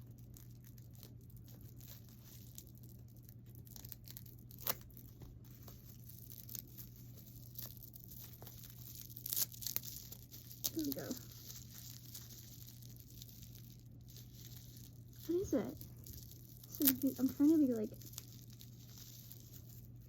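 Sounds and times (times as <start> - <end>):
wrapping tearing and crinkling: 0.0 - 20.0.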